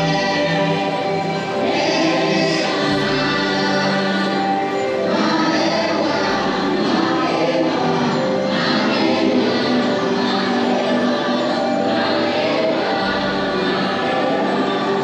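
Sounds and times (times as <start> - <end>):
choir singing held chords: 0.0 - 15.0
sustained instrumental tones: 0.0 - 15.0.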